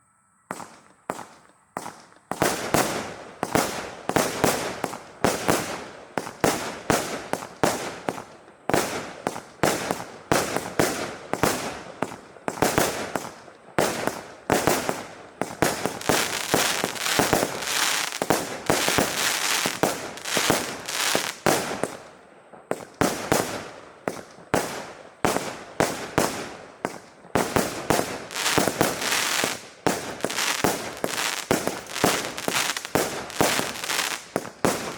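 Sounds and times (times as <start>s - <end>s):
firework battery pops and bangs: 0.5s - 34.9s.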